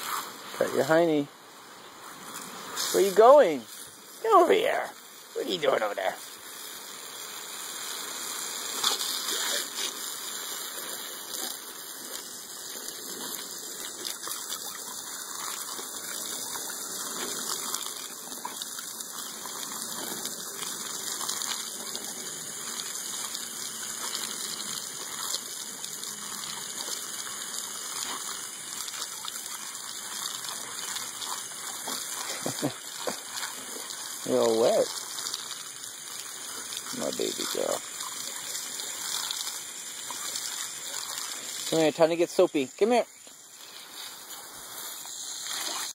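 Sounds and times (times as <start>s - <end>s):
garden hose spraying water: 0.0s - 45.9s.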